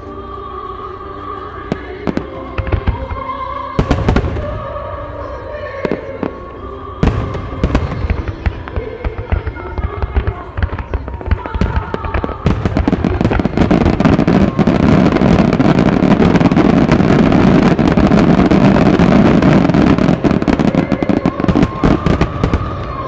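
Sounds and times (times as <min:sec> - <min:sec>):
fireworks launching and bursting: 0:01.7 - 0:23.0.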